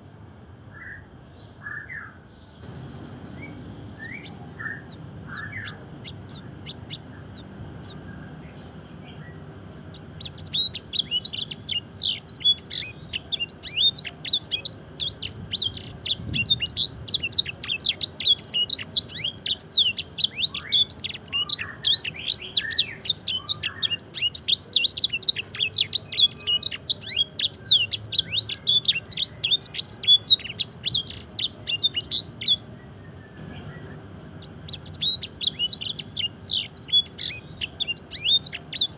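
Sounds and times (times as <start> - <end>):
canary singing: 0.8 - 38.9.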